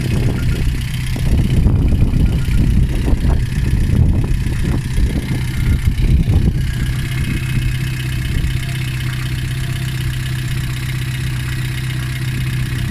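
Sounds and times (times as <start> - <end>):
car engine idling with knock: 0.0 - 12.9.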